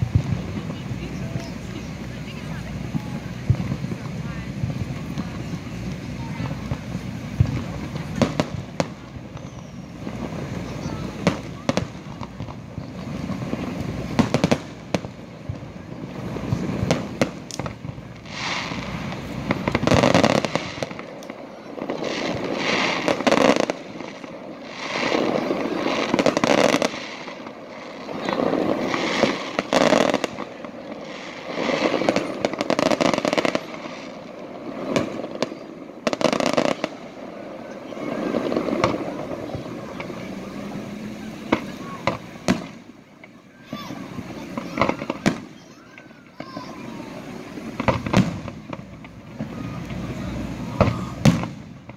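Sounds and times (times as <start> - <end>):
firework crackling: 0.0 - 51.9
firework shells bursting: 2.8 - 51.9.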